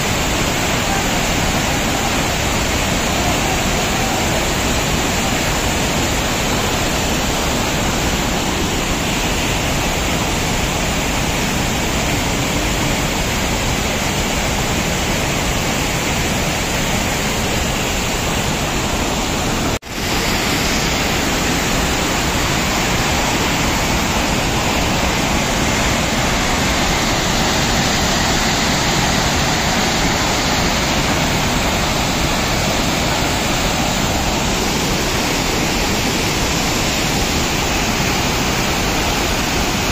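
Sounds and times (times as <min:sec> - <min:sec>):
rapids rushing over rocks: 0:00.0 - 0:39.9.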